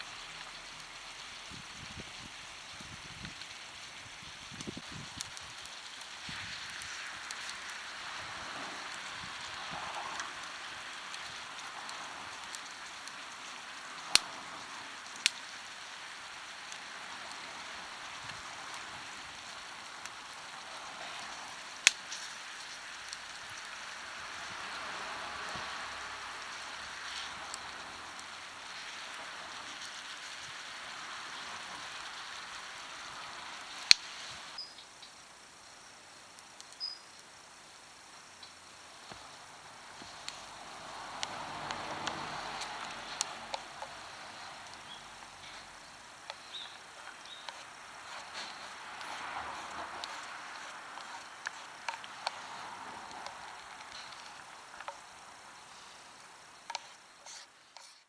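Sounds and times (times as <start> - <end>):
burning wood popping: 0.0 - 58.0
food sizzling in a frying pan: 0.0 - 58.0.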